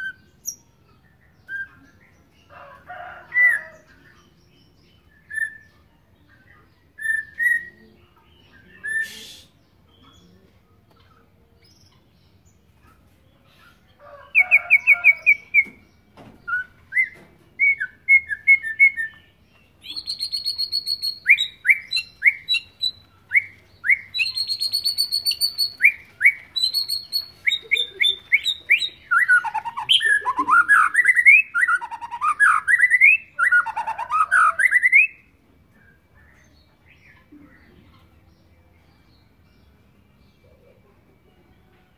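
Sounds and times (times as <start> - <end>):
songbird calls and trills: 0.0 - 41.9.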